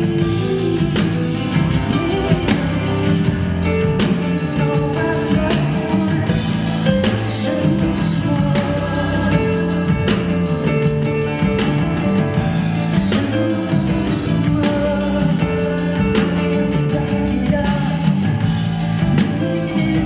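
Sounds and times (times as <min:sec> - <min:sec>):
person singing: 0:00.0 - 0:11.6, 0:12.3 - 0:20.0
live rock band playing: 0:00.0 - 0:20.0.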